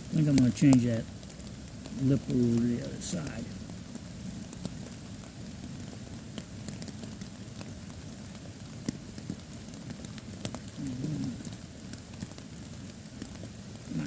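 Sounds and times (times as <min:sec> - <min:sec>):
rain pattering on a tarp: 0:00.0 - 0:14.0
sharp drips: 0:00.0 - 0:14.0.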